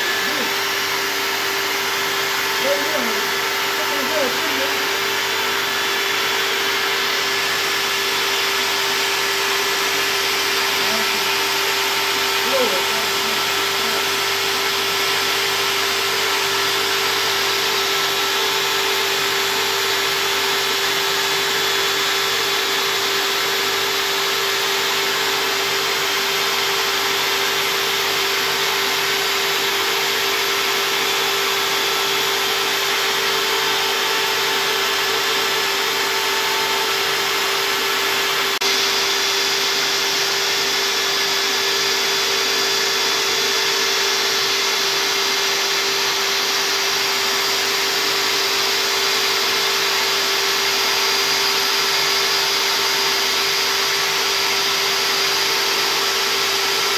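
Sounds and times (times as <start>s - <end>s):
dust extraction vacuum rushing: 0.0s - 56.9s
router bit carving wood: 0.0s - 56.9s
router spindle motor running: 0.0s - 56.9s.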